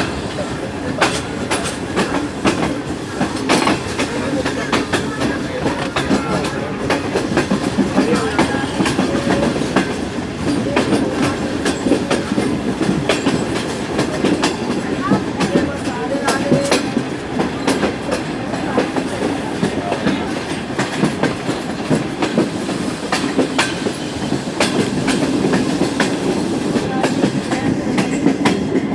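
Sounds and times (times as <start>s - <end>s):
train carriage rumble: 0.0s - 28.9s
wheels clacking over rail joints: 0.0s - 28.9s.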